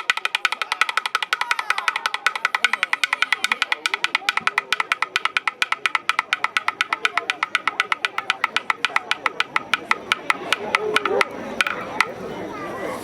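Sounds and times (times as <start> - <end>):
rapid high drum strikes: 0.0 - 12.2.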